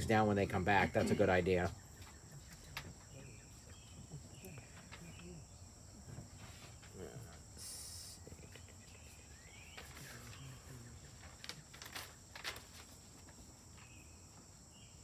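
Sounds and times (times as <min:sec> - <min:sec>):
crickets droning: 0:00.0 - 0:15.0.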